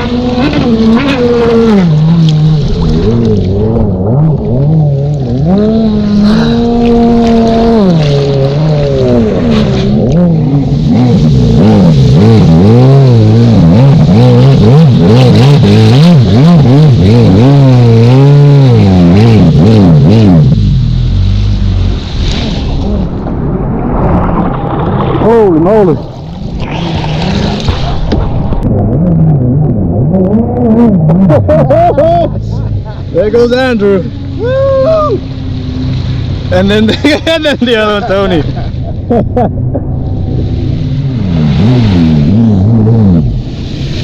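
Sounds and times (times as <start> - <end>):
jet ski engine revving: 0.0 - 23.2, 25.7 - 44.0.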